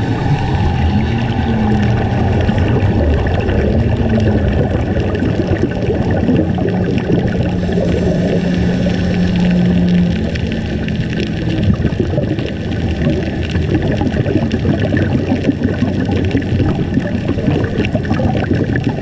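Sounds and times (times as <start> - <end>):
low wavering hum: 0.0 - 19.0
underwater water rush with crackling: 0.0 - 19.0.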